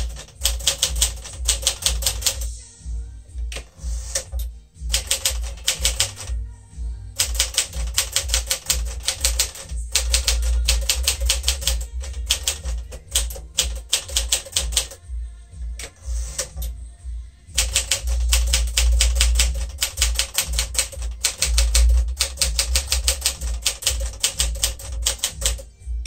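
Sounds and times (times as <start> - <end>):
typewriter carriage return: 0.0 - 2.5, 3.5 - 6.3, 7.2 - 15.0, 15.8 - 16.7, 17.6 - 25.6
typewriter keys clacking: 0.0 - 2.5, 3.5 - 6.3, 7.2 - 15.0, 15.8 - 16.7, 17.6 - 25.6.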